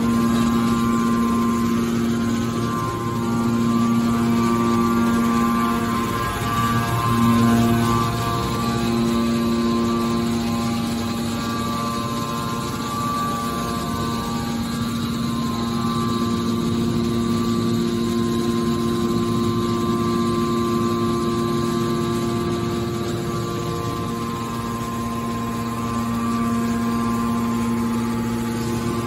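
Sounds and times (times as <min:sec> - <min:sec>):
hydraulic pump hum and whine: 0:00.0 - 0:29.0.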